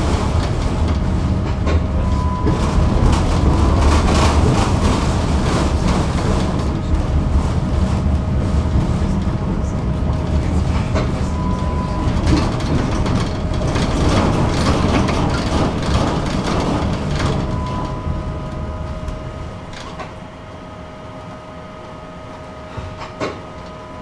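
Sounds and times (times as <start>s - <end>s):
tram rumbling on rails: 0.0s - 24.0s.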